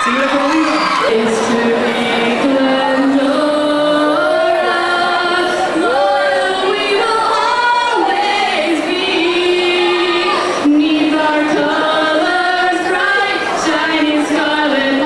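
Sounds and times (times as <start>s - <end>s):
crowd singing together: 0.0s - 15.0s.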